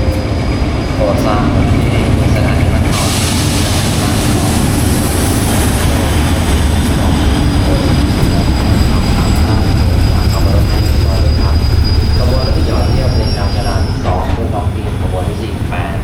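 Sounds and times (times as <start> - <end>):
diesel train engine rumble: 0.0 - 16.0
rail noise: 0.0 - 16.0.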